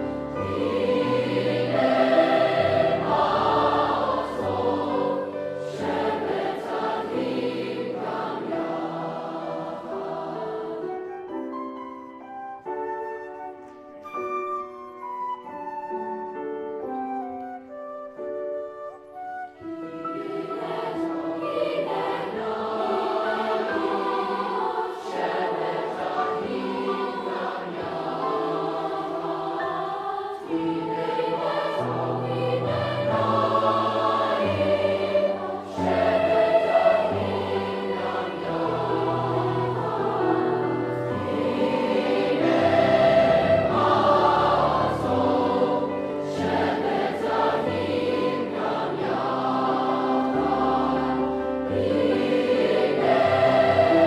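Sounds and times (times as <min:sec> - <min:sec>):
choir singing held chords: 0:00.0 - 0:11.4, 0:19.8 - 0:54.0.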